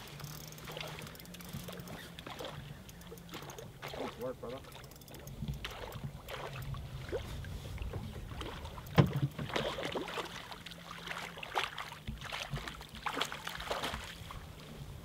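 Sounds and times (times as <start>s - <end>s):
fish splashing in water: 0.0s - 14.6s.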